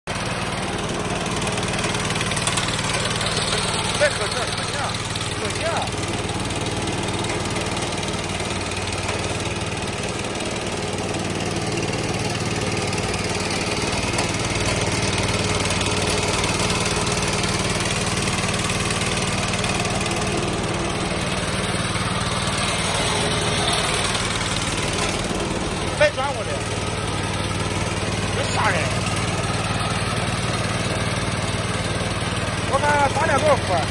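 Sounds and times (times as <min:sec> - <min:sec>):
mower petrol engine running: 0:00.1 - 0:33.9.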